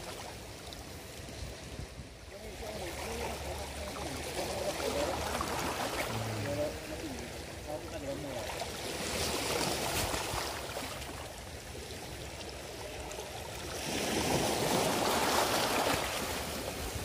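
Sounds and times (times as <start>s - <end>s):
sea waves splashing against rocks: 0.0s - 17.0s.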